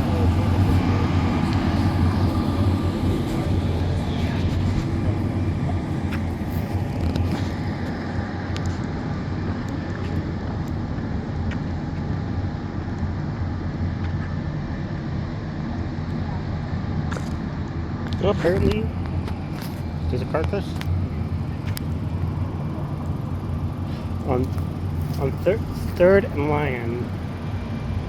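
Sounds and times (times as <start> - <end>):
traffic engines rumbling: 0.0 - 28.0.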